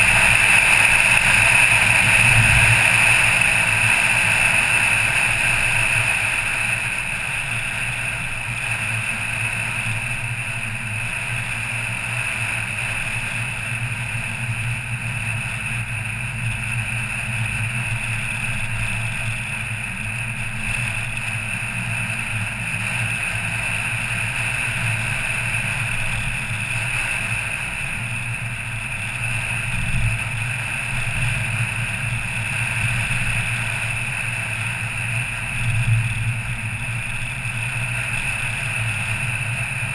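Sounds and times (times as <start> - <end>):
car engine hum: 0.0 - 39.9
tyre and road noise: 0.0 - 39.9.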